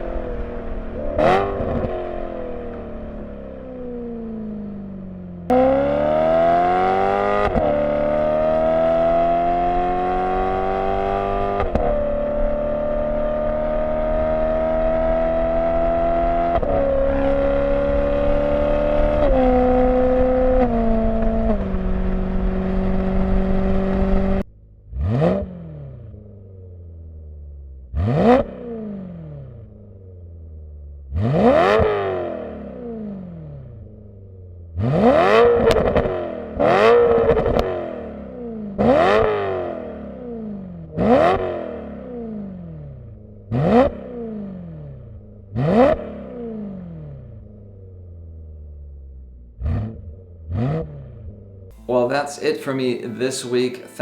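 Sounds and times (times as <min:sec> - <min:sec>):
engine revving blips: 0:00.0 - 0:26.3, 0:27.9 - 0:30.0, 0:31.1 - 0:33.9, 0:34.8 - 0:47.7, 0:49.6 - 0:54.0
car engine accelerating and shifting: 0:00.0 - 0:51.9.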